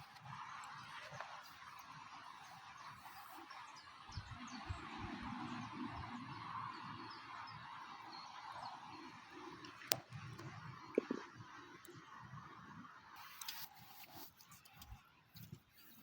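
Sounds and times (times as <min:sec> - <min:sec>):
faint small bird chirps: 0:00.0 - 0:12.1, 0:13.1 - 0:16.0.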